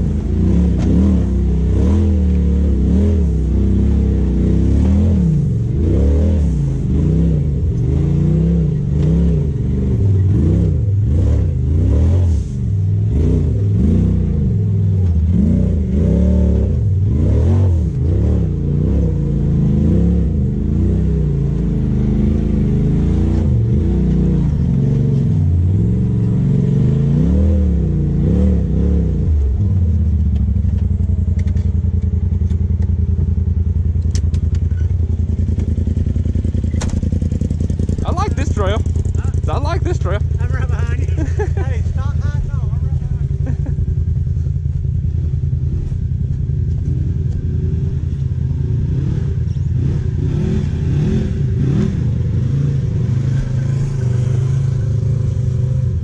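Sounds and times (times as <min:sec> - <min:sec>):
engine revving and idling: 0:00.0 - 0:56.0.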